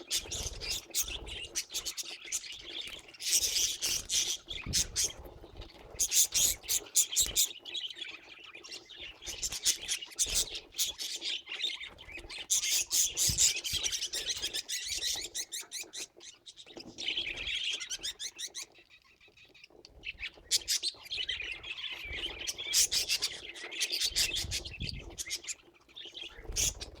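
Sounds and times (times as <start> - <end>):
budgerigars chirping: 0.0 - 27.0.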